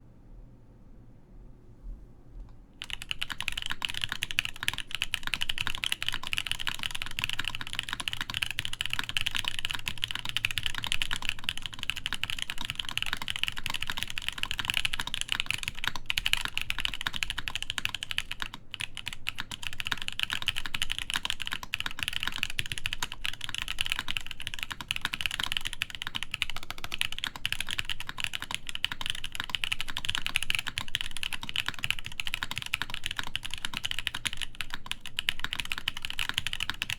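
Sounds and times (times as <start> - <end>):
mechanical keyboard typing: 2.8 - 36.9.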